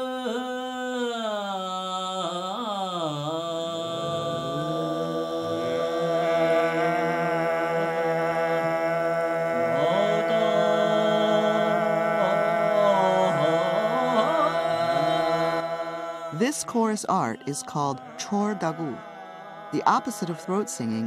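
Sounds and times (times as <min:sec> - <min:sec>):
voice singing a bending melody: 0:00.0 - 0:21.0
choir holding a drone: 0:03.1 - 0:21.0.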